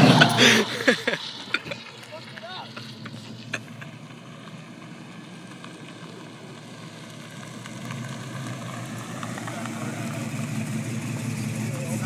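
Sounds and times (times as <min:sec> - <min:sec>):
car engine at low speed: 0:00.0 - 0:12.0.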